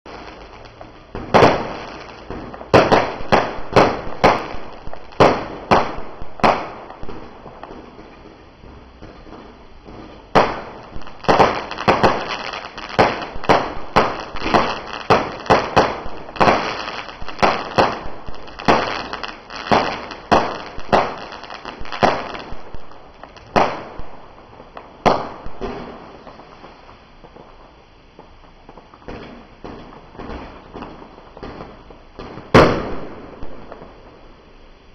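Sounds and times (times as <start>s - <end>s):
fireworks popping: 0.1s - 34.4s.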